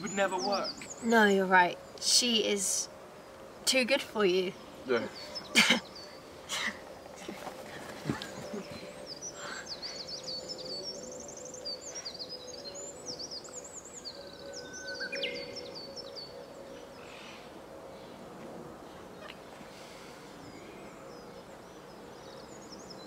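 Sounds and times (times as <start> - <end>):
small birds chirping: 0.0 - 18.2, 18.9 - 23.0.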